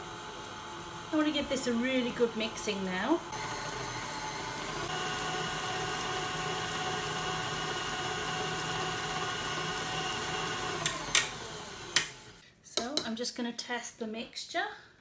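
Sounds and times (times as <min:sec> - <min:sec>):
stand mixer motor whining: 0:00.0 - 0:12.4.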